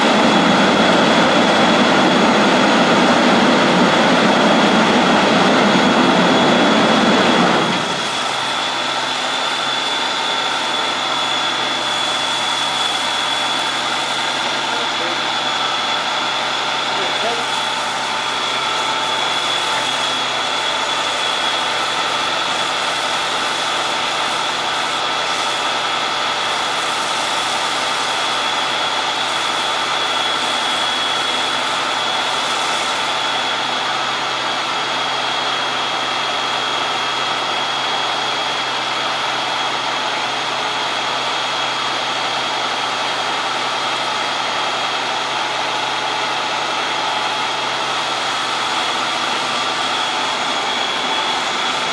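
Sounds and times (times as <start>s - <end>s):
diesel engine running: 0.0s - 51.9s
high-pitched whine: 0.0s - 51.9s.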